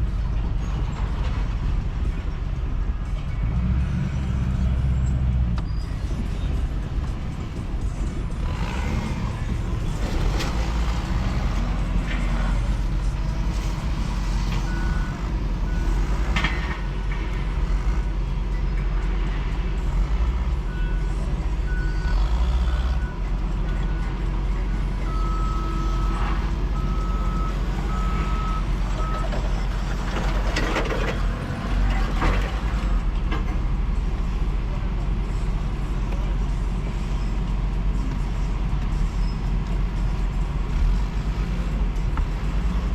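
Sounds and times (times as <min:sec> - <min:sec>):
heavy vehicle engine rumbling: 0:00.0 - 0:42.9.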